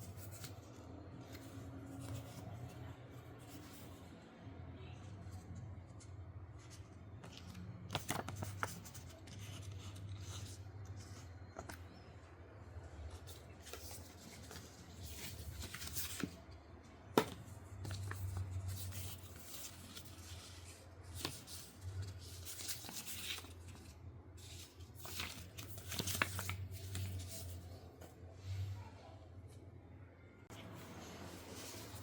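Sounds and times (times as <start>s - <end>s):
rustling and scraping handling: 0.0s - 4.1s, 5.1s - 29.6s, 30.5s - 32.0s.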